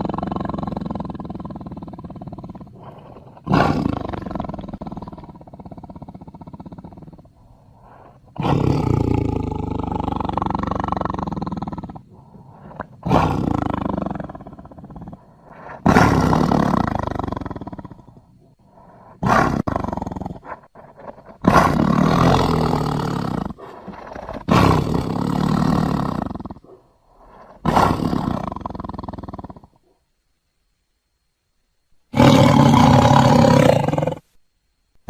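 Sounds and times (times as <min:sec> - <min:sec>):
tiger roaring: 0:00.0 - 0:29.9, 0:32.1 - 0:34.3.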